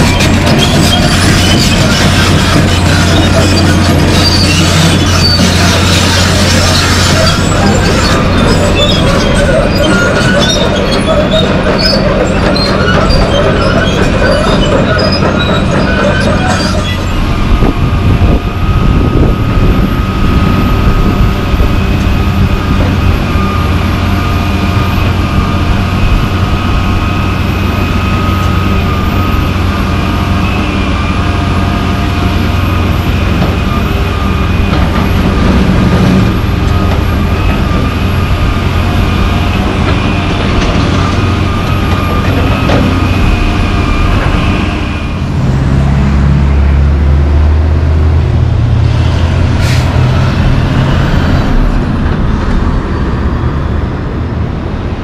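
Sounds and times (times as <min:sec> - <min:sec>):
excavator diesel engine under load: 0:00.0 - 0:55.0
hydraulic whine: 0:00.0 - 0:55.0.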